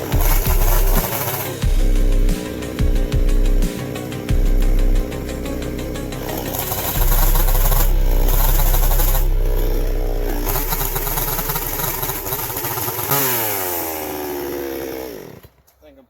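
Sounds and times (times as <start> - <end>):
chainsaw running at high revs: 0.0 - 15.9.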